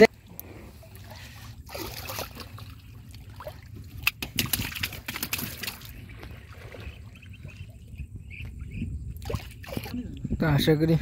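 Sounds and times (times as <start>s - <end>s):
water sloshing and splashing: 0.1s - 10.1s.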